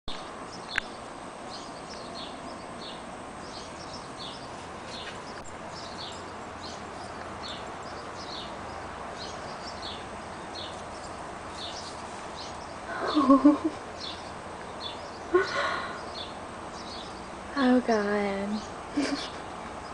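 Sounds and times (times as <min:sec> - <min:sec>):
bird chirping: 0:00.1 - 0:19.9
outdoor background hiss: 0:00.1 - 0:19.9.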